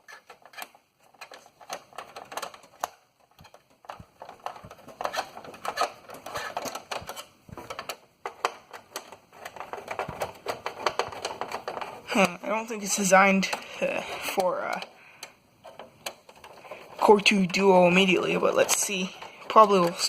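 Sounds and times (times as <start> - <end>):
scraping and clatter: 0.0 - 15.0, 15.6 - 20.0
metal and plastic parts rattling: 0.0 - 20.0.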